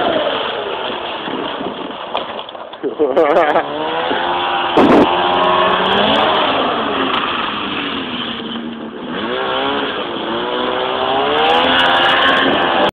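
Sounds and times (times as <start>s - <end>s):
snowmobile engine revving: 0.0s - 2.0s, 2.9s - 12.9s.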